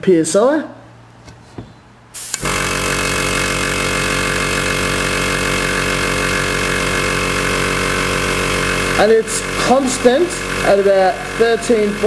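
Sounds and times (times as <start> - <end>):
airbrush compressor running: 2.2 - 12.0.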